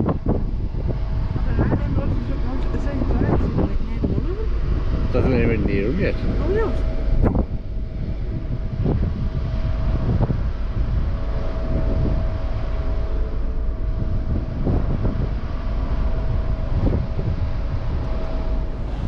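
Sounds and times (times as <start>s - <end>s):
thin steady hum: 0.0s - 19.0s
wind buffeting microphone: 0.0s - 19.0s.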